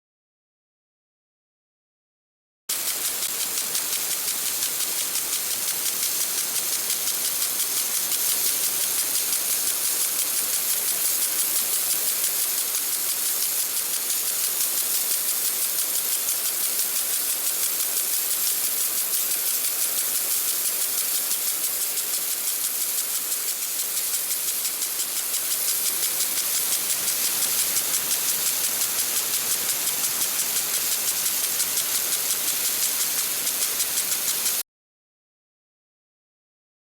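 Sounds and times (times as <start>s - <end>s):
lawn sprinkler spraying water: 2.7s - 34.6s.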